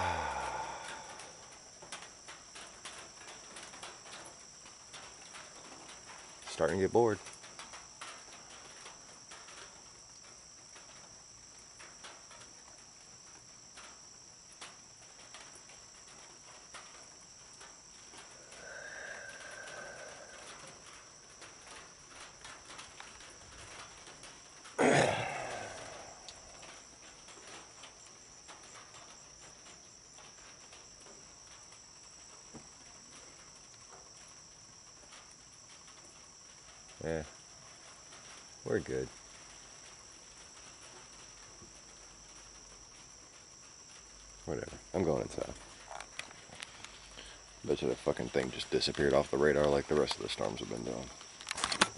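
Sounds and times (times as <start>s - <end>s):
night insects chirping: 0.0s - 51.9s.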